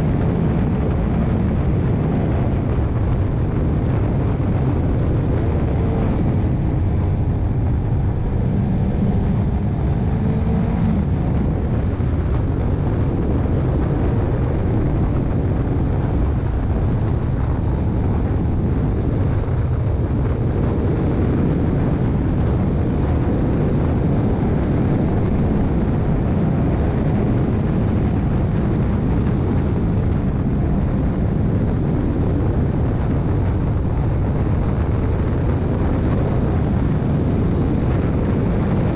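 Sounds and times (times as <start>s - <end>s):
motorcycle engine hum: 0.0s - 38.9s
wind rush over microphone: 0.0s - 38.9s.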